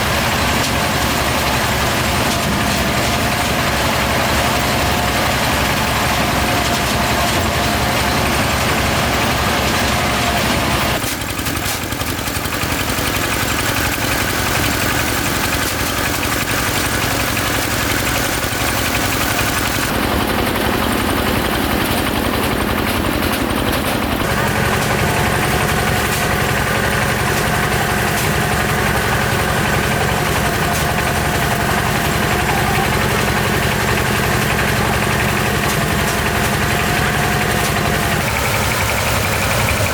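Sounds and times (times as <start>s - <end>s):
loud engine running: 0.0s - 39.9s.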